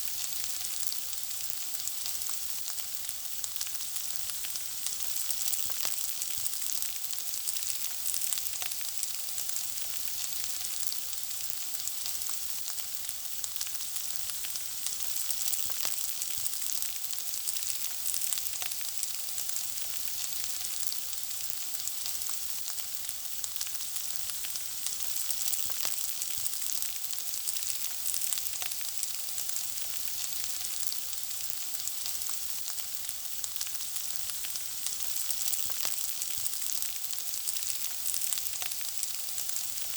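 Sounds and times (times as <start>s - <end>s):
food frying in hot oil: 0.0s - 39.9s.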